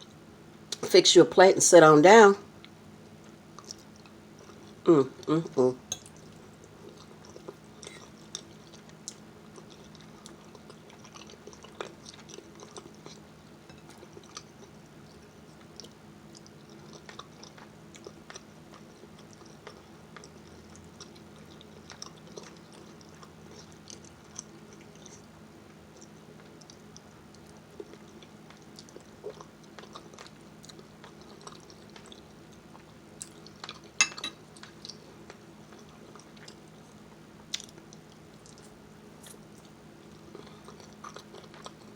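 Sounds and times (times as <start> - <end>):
faint low hum: 0.0 - 41.9
chewing food: 2.6 - 5.3, 5.9 - 41.9.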